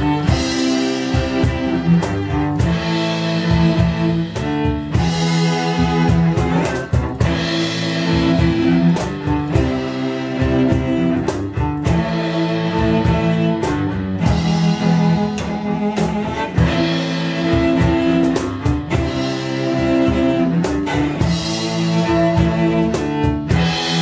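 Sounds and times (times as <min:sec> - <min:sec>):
cellos bowing metal music: 0:00.0 - 0:24.0
percussion hits: 0:00.0 - 0:24.0.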